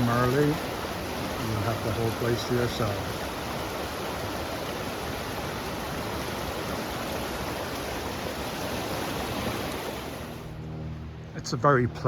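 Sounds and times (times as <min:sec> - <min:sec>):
fast creek water rushing: 0:00.0 - 0:11.3.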